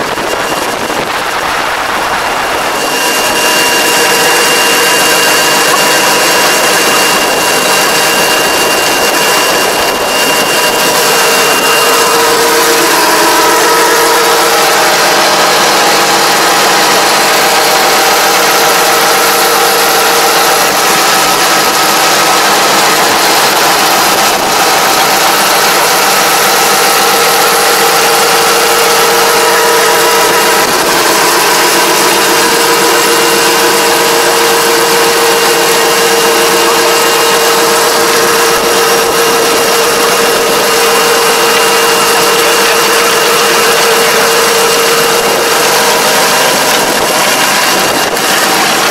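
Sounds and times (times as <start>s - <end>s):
tractor engine running under load: 0.0s - 48.9s.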